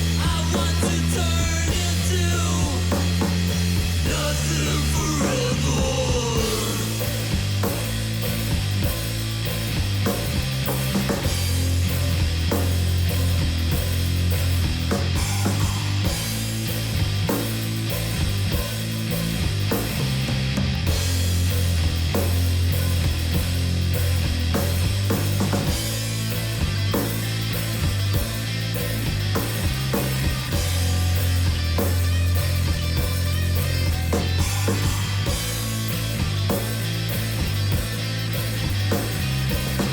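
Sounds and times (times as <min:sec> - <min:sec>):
drum kit beat: 0:00.0 - 0:39.9
heavy bass riff: 0:00.0 - 0:39.9
rock guitar: 0:00.0 - 0:39.9.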